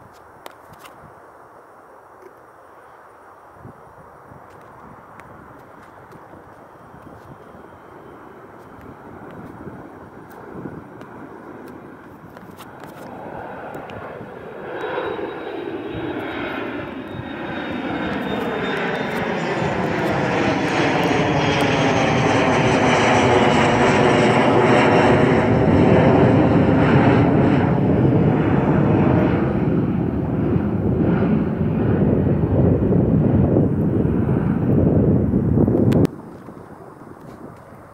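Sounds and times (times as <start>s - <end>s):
faint high whine: 0.0s - 31.6s
jet airliner engine noise: 0.0s - 37.9s.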